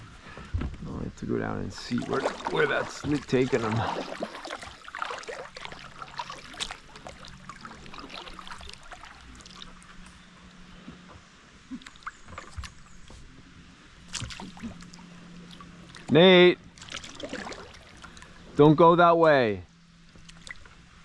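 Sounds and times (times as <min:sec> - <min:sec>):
paddle splashes and drips: 0:01.7 - 0:18.6, 0:20.1 - 0:20.8.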